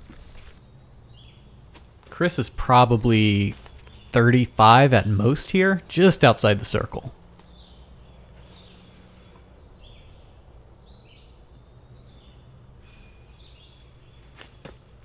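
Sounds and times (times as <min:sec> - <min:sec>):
birds chirping: 0:00.0 - 0:15.0
low steady background rumble: 0:00.0 - 0:15.0.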